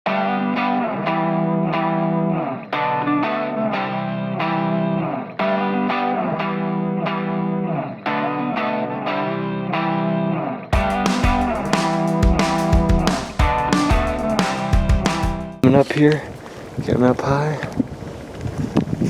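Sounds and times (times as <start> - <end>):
strummed electric guitar chords: 0.1 - 15.6.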